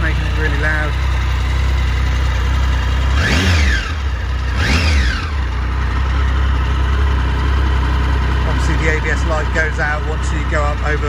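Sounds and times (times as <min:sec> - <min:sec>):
motorcycle engine idling: 0:00.0 - 0:11.0
motorcycle engine revving: 0:00.0 - 0:11.0.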